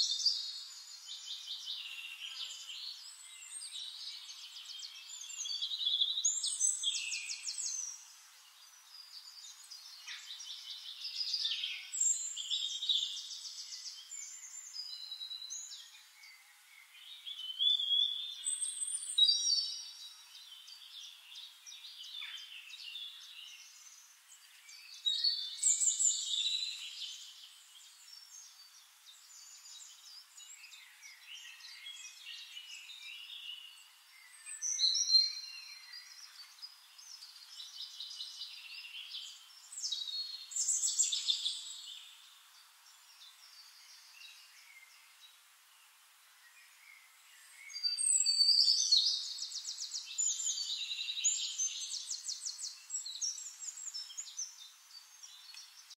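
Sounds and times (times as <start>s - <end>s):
soft continuous bird chirping: 0.0s - 55.9s
songbirds singing: 0.0s - 55.9s.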